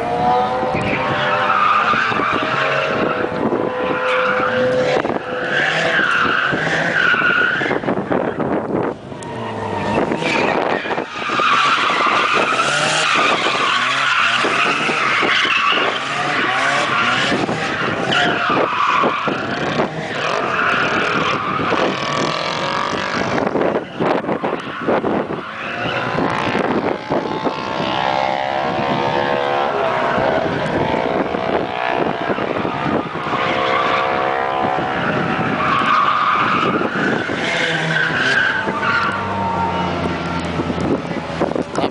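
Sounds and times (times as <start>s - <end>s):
car engine revving: 0.0s - 41.9s
tires squealing: 0.0s - 41.9s.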